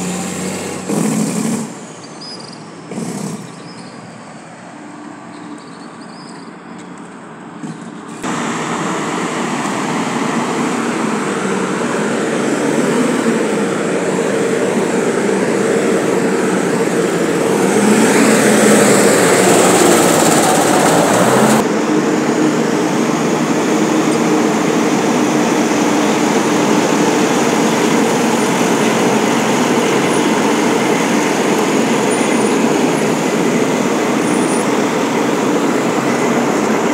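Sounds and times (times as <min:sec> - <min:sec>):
diesel truck engines passing: 0:00.0 - 0:36.9.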